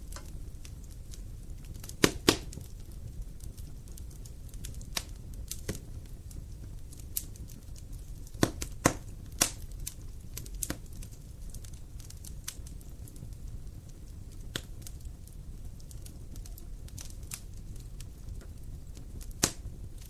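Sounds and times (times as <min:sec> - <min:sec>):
low steady rumble: 0:00.0 - 0:20.0
wood fire crackling: 0:00.0 - 0:20.0.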